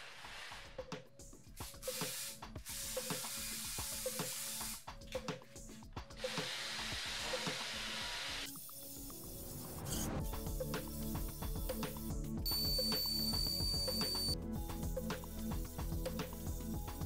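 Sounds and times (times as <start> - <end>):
background music with beat: 0.5 - 17.0.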